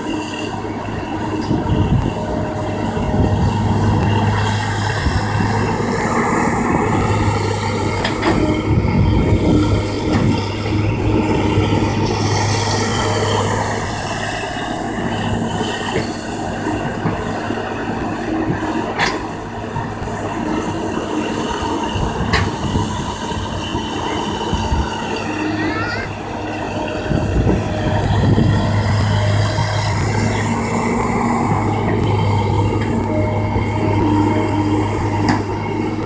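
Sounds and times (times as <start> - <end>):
excavator diesel engine droning: 0.0 - 36.0
high whining tones: 0.0 - 36.0.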